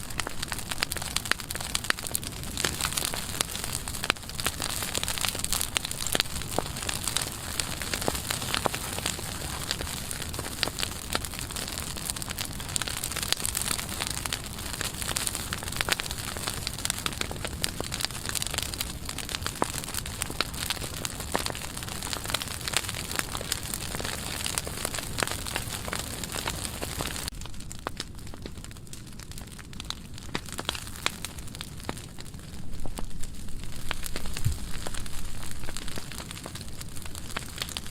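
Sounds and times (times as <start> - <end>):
low rush of flame: 0.0 - 37.9
wood fire crackling and popping: 0.0 - 37.9.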